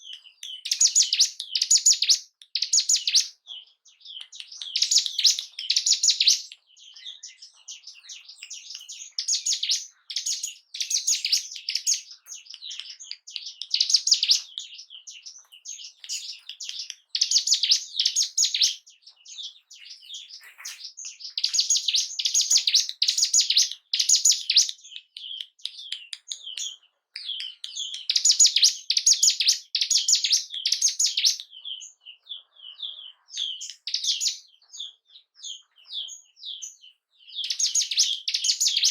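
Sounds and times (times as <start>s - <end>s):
bird singing fast high chirps: 0.0s - 38.9s
soft bird twittering: 0.0s - 38.9s.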